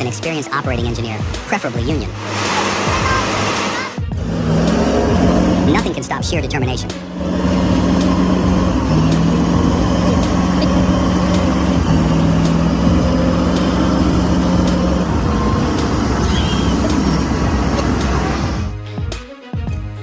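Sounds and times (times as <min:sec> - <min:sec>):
heavy truck engine running: 0:01.9 - 0:18.8.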